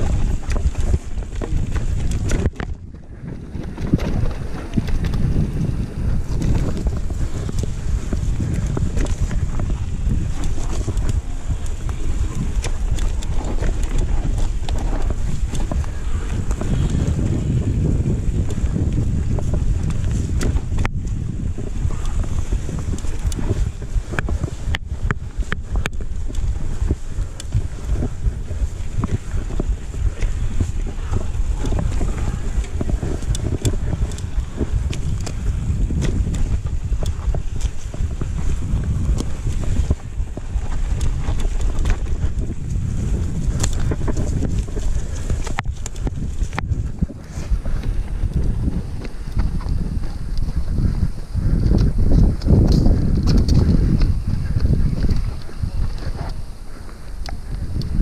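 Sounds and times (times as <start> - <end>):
bike rattling over bumps: 0.0 - 58.0
tyres rolling on loose dirt: 0.0 - 58.0
wind buffeting microphone: 0.0 - 58.0.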